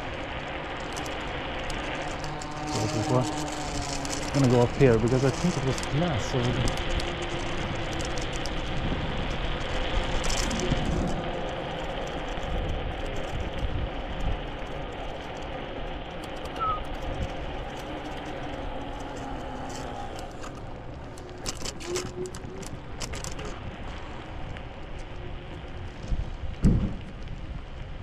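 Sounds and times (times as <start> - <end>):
road and wind noise: 0.0 - 28.0
sharp clicks and rattles: 0.4 - 26.2.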